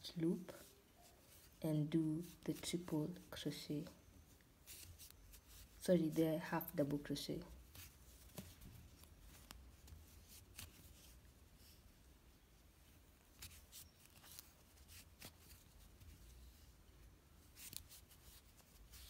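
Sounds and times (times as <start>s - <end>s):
yarn rustling: 0.0s - 19.0s.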